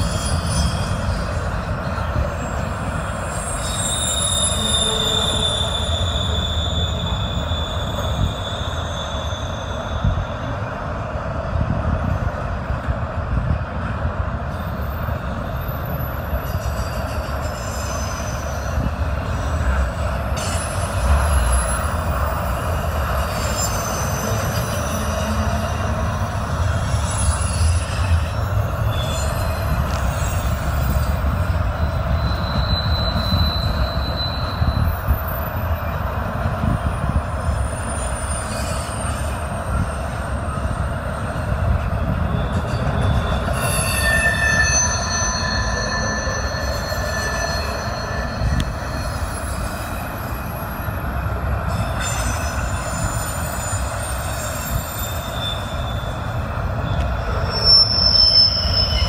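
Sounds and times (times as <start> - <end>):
high wheel squeals: 0.0 - 11.0, 14.5 - 59.0
steel wheels rumbling on rail: 0.0 - 59.0.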